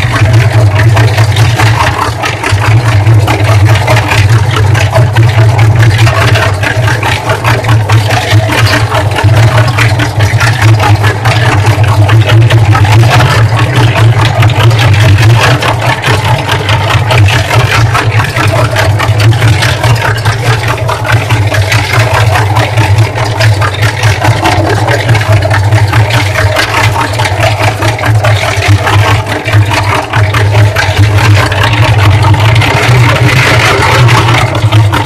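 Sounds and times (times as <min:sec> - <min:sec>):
cement mixer running: 0:00.0 - 0:35.0
rattle: 0:00.0 - 0:35.0
soapy water sloshing and splashing: 0:00.0 - 0:35.0.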